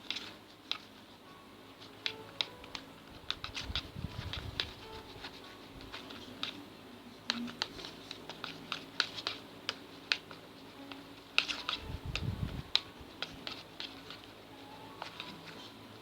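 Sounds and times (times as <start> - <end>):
slime being stirred: 0.0 - 6.7, 7.3 - 16.0.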